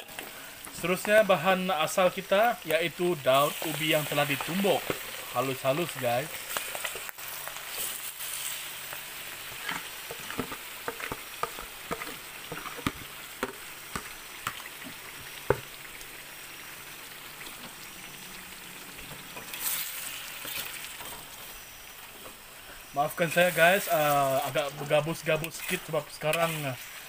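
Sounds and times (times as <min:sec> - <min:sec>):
leaves sizzling in hot fat: 0:00.0 - 0:27.0.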